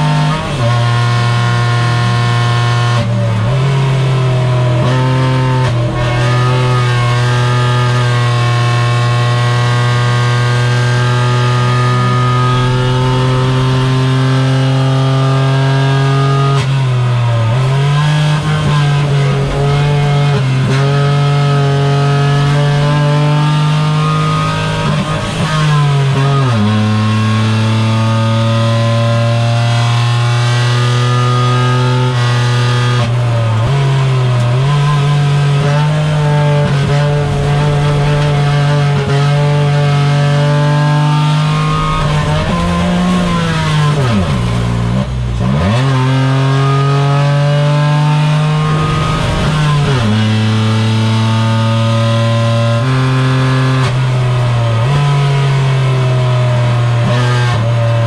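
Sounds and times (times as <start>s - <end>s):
race car engine running hard: 0.0s - 58.0s.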